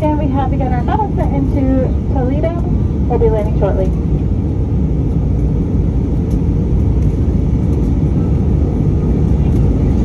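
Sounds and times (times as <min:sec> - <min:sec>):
airliner cabin engine and airflow: 0:00.0 - 0:10.0.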